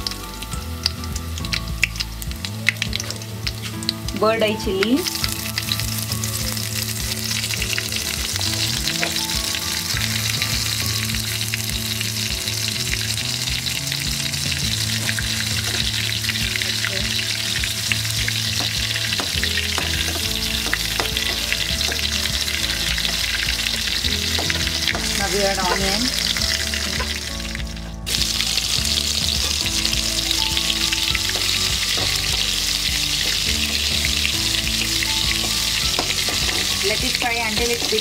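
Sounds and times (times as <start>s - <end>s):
spices sizzling in hot oil: 0.0s - 38.0s.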